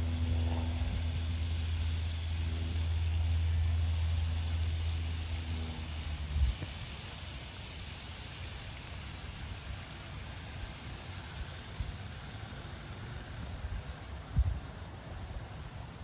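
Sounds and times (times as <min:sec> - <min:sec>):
low uneven rumble: 0:00.0 - 0:16.0.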